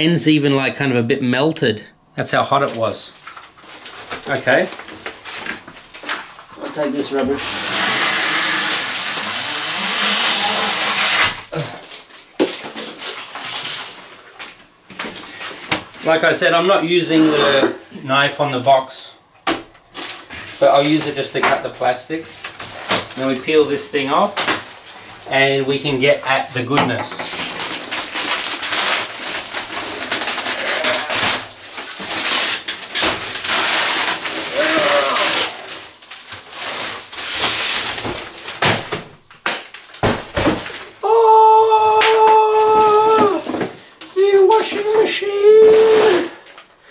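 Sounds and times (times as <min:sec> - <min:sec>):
plastic wrap crinkling: 0:02.6 - 0:16.2, 0:19.9 - 0:46.9.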